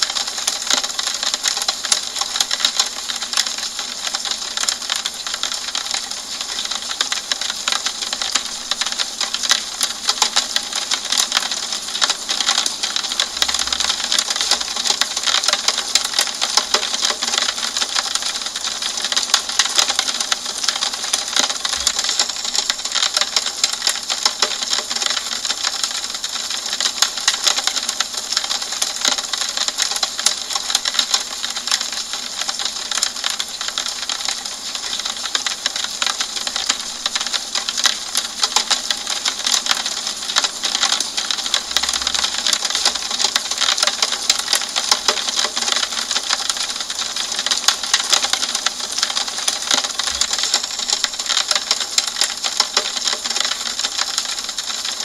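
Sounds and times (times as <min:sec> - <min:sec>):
rain tapping on window glass: 0:00.0 - 0:55.0.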